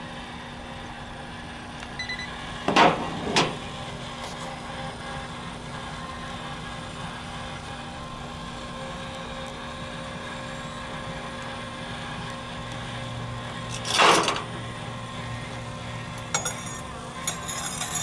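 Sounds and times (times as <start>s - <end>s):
pizza oven burner hum: 0.0s - 18.0s.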